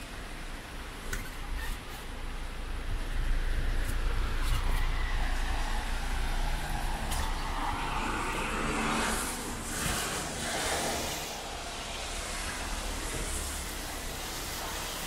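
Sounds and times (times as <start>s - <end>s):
car tyres hissing through water: 0.1s - 15.0s
steady rain: 2.2s - 15.0s.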